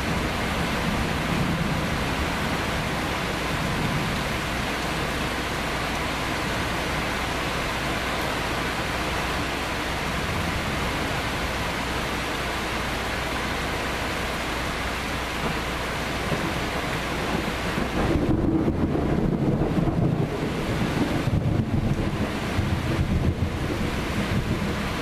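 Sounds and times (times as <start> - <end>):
low thunder rumble: 0.0 - 11.8, 15.4 - 25.0
heavy rain hissing: 0.0 - 25.0.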